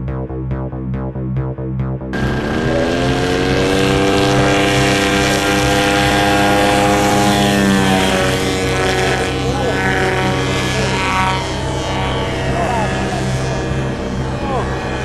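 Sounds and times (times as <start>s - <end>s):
propeller engine at full throttle: 2.1s - 15.0s.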